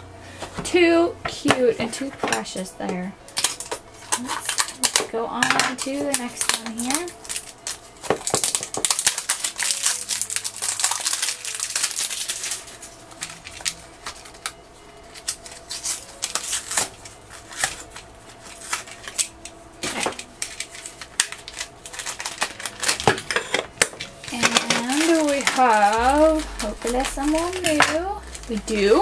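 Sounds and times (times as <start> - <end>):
plastic wrapping crinkling: 1.9 - 29.0.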